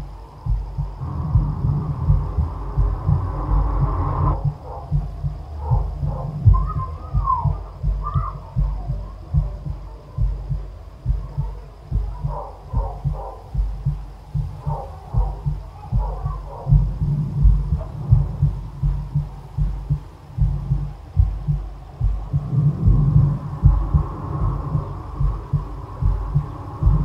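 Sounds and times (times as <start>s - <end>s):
faint high wavering sounds: 0.0s - 27.0s
heavy heartbeat thumping: 0.0s - 27.0s
steady hum: 0.0s - 27.0s.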